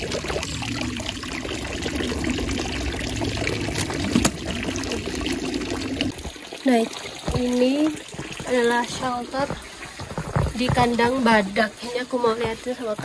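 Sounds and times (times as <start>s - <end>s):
spring water running: 0.0s - 13.0s.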